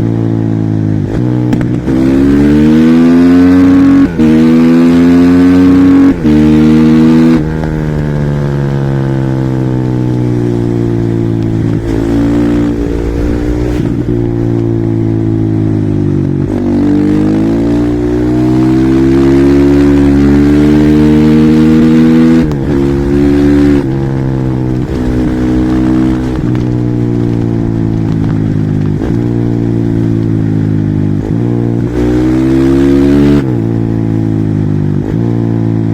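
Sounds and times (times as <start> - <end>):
motorcycle engine revving with gear changes: 0.0 - 35.9.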